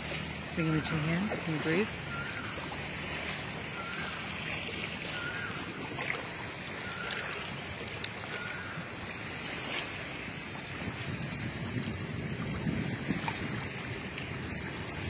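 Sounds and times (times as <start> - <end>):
shallow sea water washing: 0.0 - 15.0
wind on microphone: 0.0 - 15.0.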